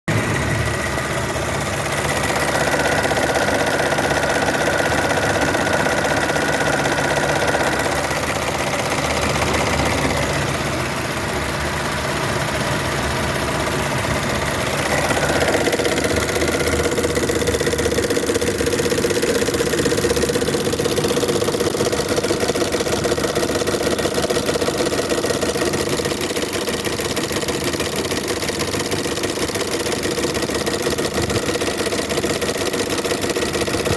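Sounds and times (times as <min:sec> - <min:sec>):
car engine running: 0:00.1 - 0:33.9.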